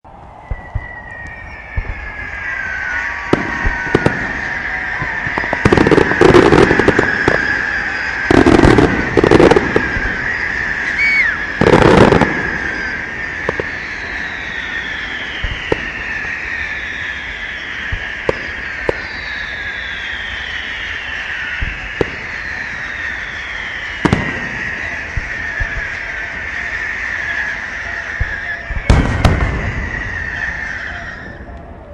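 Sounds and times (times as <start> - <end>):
falling whistles: 0.0 - 31.9
steady high whistle: 0.0 - 31.9.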